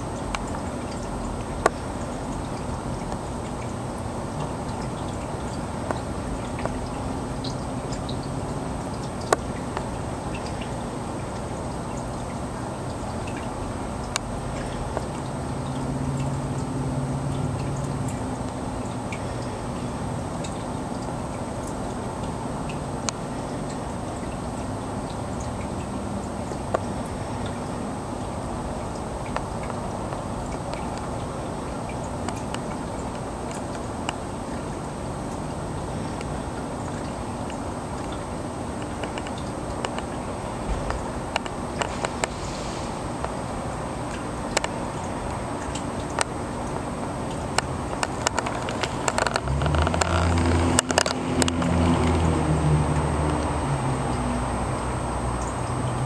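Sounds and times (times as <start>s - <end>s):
filter low hum: 0.0s - 56.0s
water trickling: 0.0s - 56.0s.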